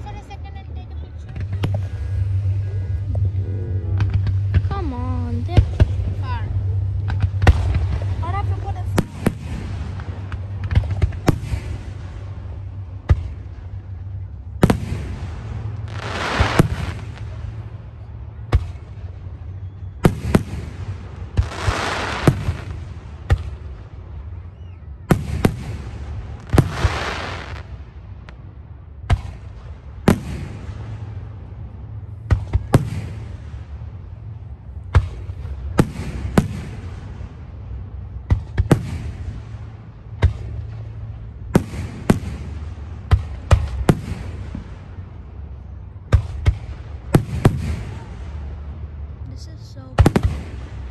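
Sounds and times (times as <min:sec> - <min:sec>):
low rumble: 0:00.0 - 0:50.9
fireworks bursting with bangs: 0:04.0 - 0:24.4, 0:25.1 - 0:28.4, 0:29.0 - 0:45.4, 0:46.0 - 0:48.7, 0:49.6 - 0:50.9.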